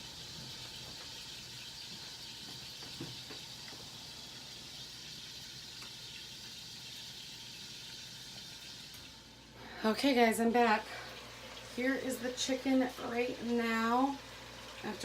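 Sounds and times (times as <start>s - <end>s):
chicken sizzling in frying pan: 0.0s - 15.0s.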